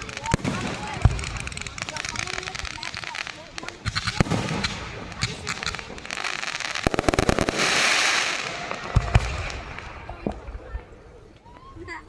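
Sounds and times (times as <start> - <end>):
deep firework booms: 0.0 - 11.3
dense crackling hiss: 0.0 - 12.0
fireworks crackling pops: 0.0 - 12.0.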